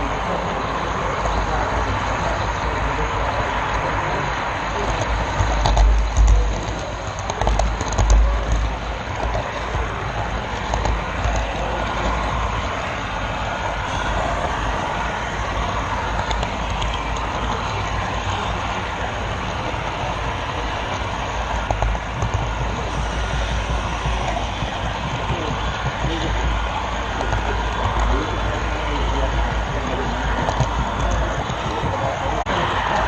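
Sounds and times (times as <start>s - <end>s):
model train wheels rumbling: 0.0s - 33.0s.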